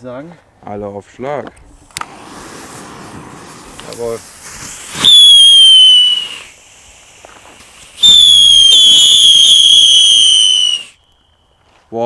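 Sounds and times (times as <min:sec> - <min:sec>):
whistling fireworks: 0:02.0 - 0:11.7.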